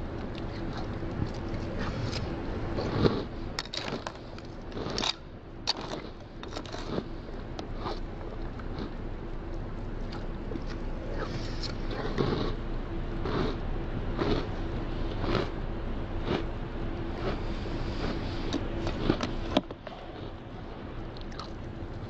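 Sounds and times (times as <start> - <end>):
person chewing crunchy cereal: 0.3 - 9.0, 9.9 - 12.6, 13.2 - 15.6, 16.2 - 16.5, 17.1 - 22.0.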